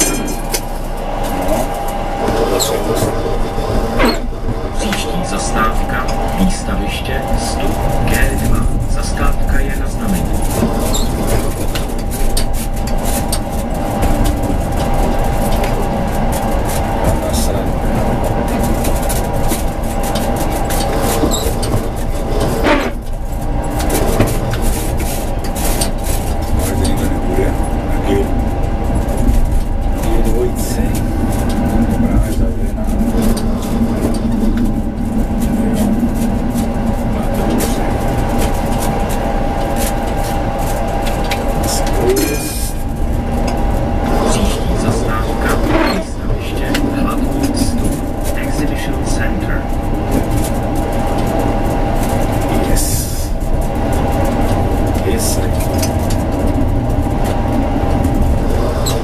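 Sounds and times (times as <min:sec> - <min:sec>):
thin steady whine: 0:00.0 - 0:59.0
tram rumbling along track: 0:00.0 - 0:59.0.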